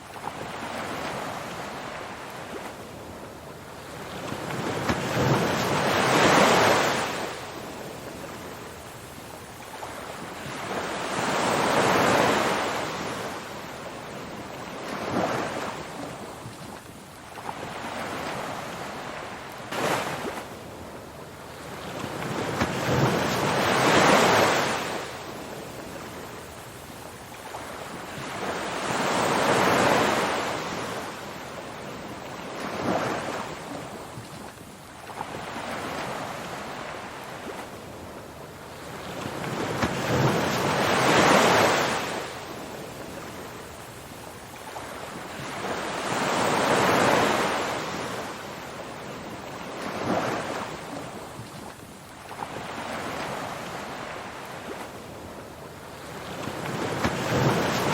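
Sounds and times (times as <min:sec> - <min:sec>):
waves breaking: 0:00.0 - 0:57.9.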